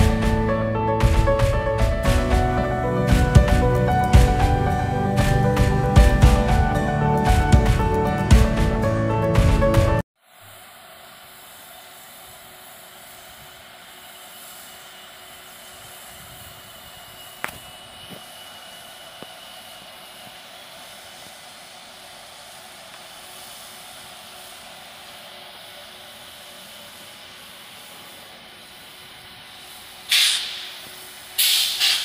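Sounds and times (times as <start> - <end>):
electric locomotive hiss and hum: 0.0 - 32.0.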